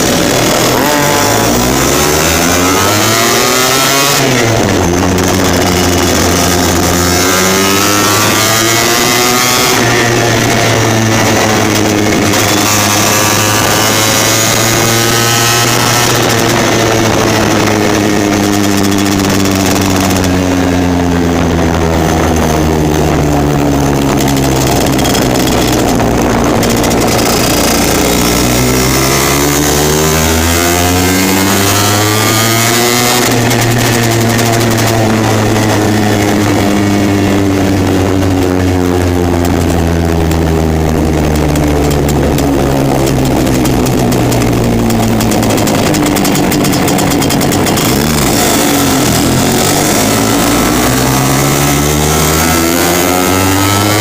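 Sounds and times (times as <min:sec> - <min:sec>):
scooter two-stroke engine running: 0:00.0 - 0:54.0.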